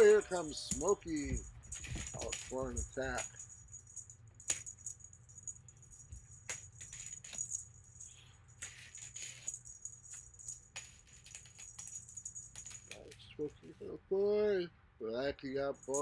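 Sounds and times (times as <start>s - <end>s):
small bells jingling: 0.0s - 13.8s, 15.6s - 16.0s.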